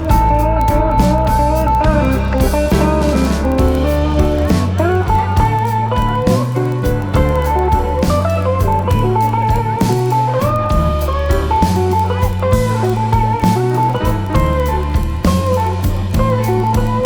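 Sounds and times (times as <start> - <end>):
bass notes: 0.0 - 17.0
drum beat: 0.0 - 17.0
guitar melody: 0.0 - 17.0.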